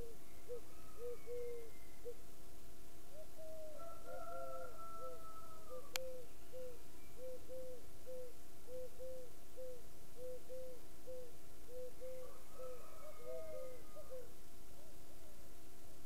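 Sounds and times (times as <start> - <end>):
birds hooting: 0.0 - 2.2, 3.1 - 15.4
faint steady hum: 0.0 - 16.0.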